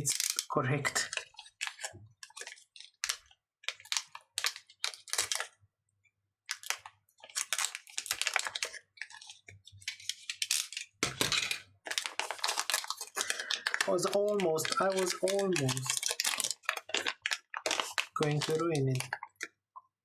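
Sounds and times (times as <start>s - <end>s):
plastic packaging crinkling: 0.0s - 5.6s, 6.4s - 19.5s.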